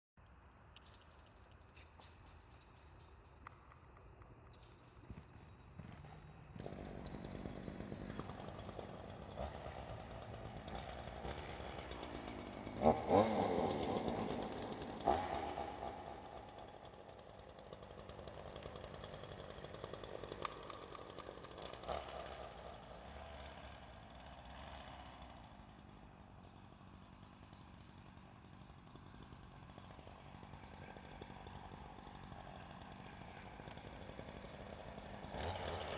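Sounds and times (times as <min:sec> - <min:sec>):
chainsaw revving: 0:02.0 - 0:35.9.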